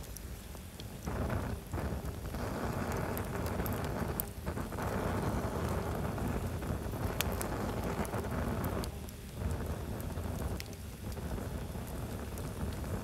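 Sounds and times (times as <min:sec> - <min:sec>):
campfire flames rushing: 0:00.0 - 0:13.0
fire crackles and pops: 0:00.0 - 0:13.0.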